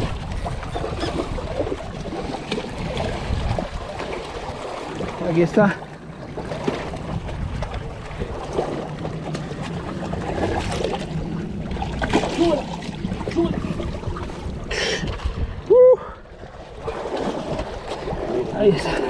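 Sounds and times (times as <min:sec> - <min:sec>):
wind on microphone: 0:00.0 - 0:05.2, 0:06.6 - 0:08.9, 0:09.5 - 0:19.0
water lapping against rocks: 0:00.0 - 0:19.0.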